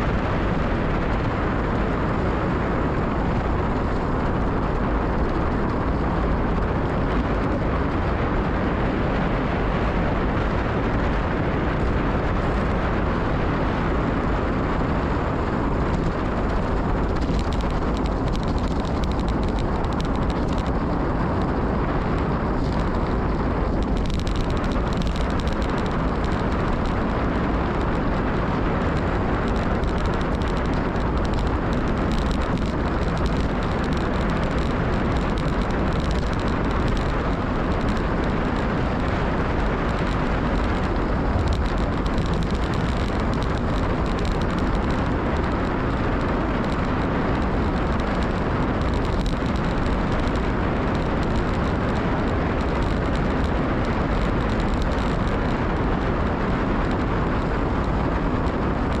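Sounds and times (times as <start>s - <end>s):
bike tyres rolling on gravel: 0.0s - 59.0s
wind on microphone: 0.0s - 59.0s.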